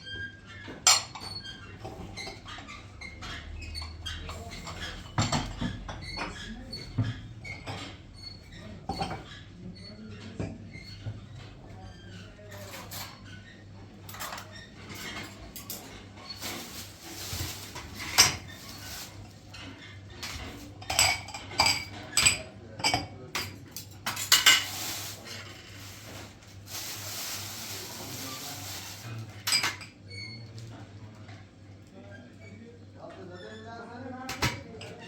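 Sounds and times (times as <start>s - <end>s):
dishes and metal kitchenware clinking: 0.0s - 31.5s, 34.3s - 35.0s.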